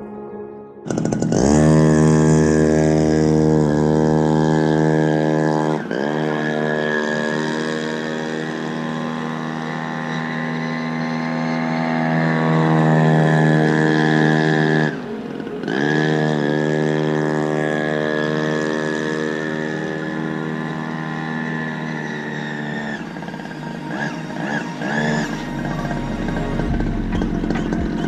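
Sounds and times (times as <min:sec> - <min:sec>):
two-stroke boat engine high revs: 0:00.9 - 0:28.0.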